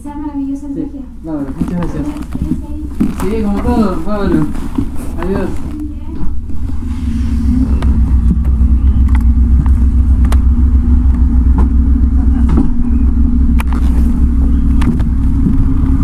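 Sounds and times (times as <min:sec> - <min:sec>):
motorcycle engine idling: 0:02.4 - 0:16.0.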